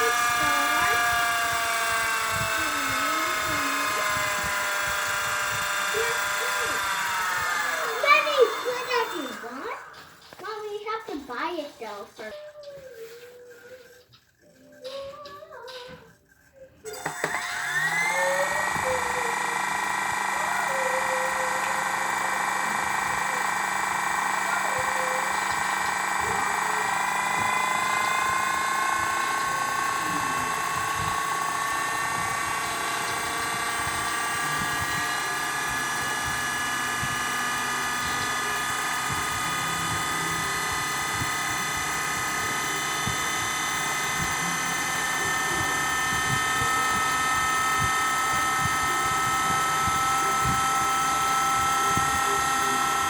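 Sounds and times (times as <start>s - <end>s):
small electric motor whining: 0.0s - 53.0s.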